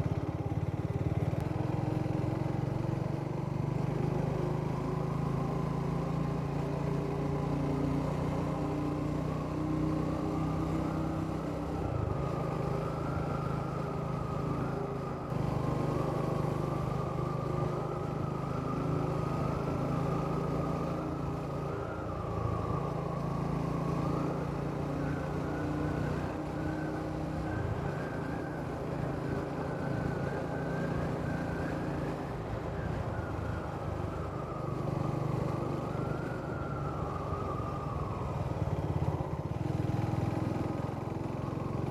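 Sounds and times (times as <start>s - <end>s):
motorcycle engine and exhaust running: 0.0s - 41.9s.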